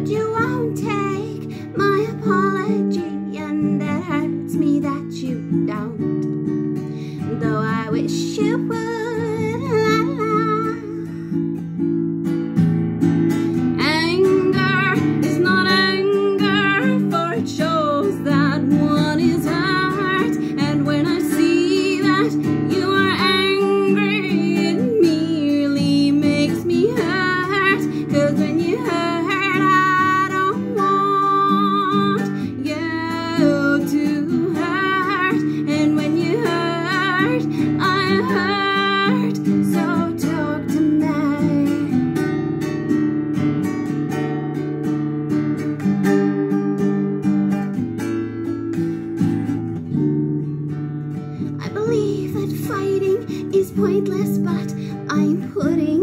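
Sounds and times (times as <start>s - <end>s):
woman singing: 0.0s - 11.4s, 13.6s - 42.4s, 51.4s - 56.0s
strummed acoustic guitar: 0.0s - 56.0s.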